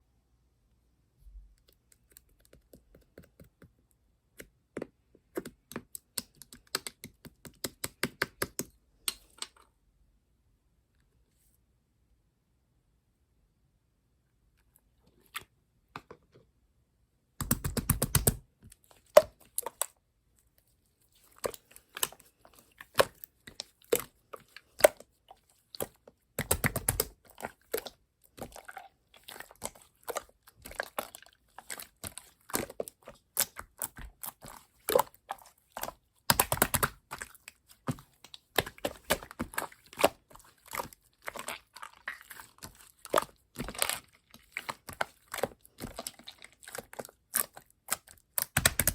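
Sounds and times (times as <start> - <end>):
hands squishing slime: 1.6 - 9.6, 17.4 - 48.9.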